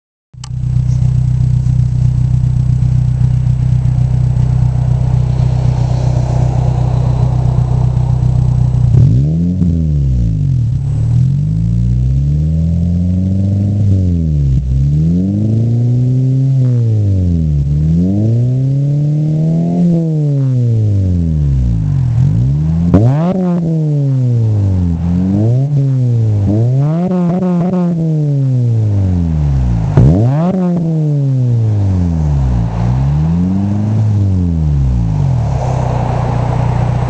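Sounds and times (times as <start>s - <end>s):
car engine revving: 0.4s - 37.0s.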